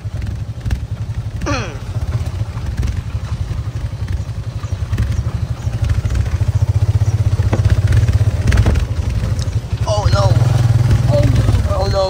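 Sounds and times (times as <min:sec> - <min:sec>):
knocks and rattles: 0:00.0 - 0:11.8
small motorcycle engine running: 0:00.0 - 0:12.0.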